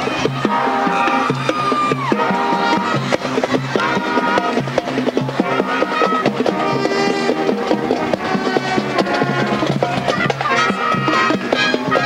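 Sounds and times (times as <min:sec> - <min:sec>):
marching band horns: 0:00.0 - 0:12.0
steady drum beat: 0:00.0 - 0:12.0.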